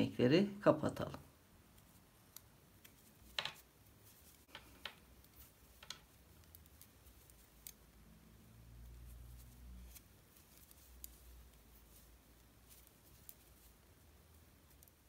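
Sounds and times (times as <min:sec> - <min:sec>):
knitting needles clicking: 0:01.6 - 0:15.0.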